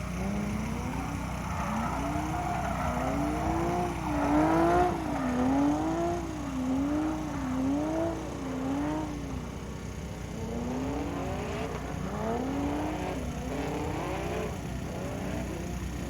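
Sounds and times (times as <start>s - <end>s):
car engine revving hard: 0.0s - 9.4s, 10.3s - 15.9s.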